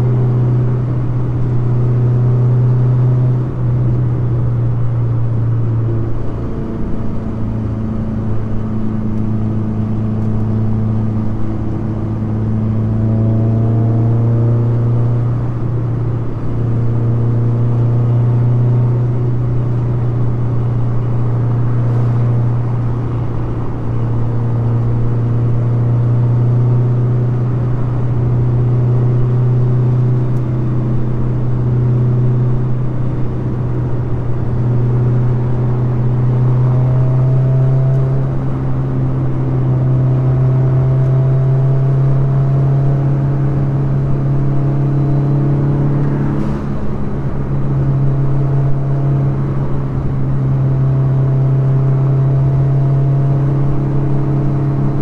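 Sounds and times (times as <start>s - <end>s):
car engine cruising: 0.0s - 55.0s
road noise: 0.0s - 55.0s.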